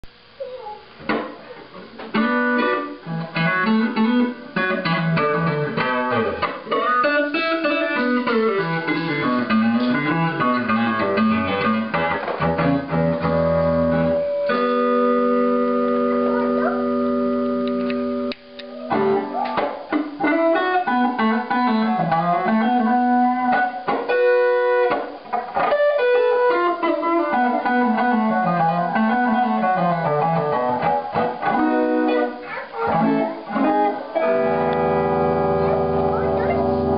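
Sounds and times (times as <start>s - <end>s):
electric guitar with wah effect: 0.1s - 36.9s.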